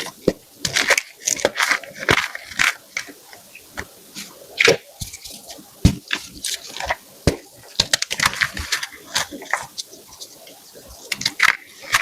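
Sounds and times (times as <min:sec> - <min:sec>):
chalk blocks crunching and cracking: 0:00.0 - 0:12.0.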